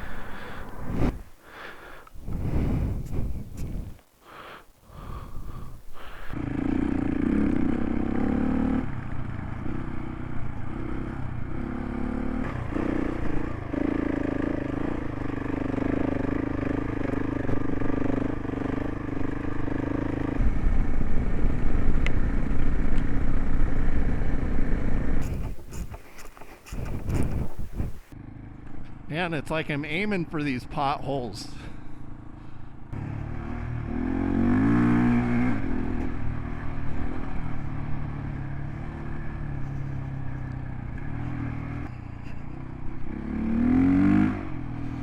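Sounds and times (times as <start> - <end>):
motorcycle engine riding: 0.0 - 45.0.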